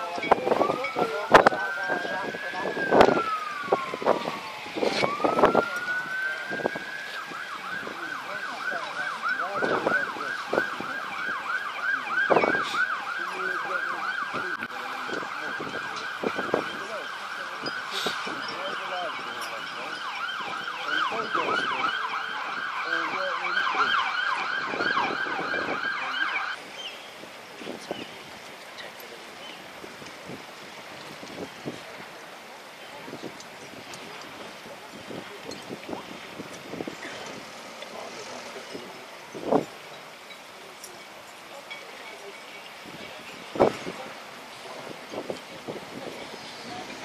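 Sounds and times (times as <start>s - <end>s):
emergency vehicle siren: 0.0s - 26.6s, 33.0s - 40.8s, 41.6s - 47.0s.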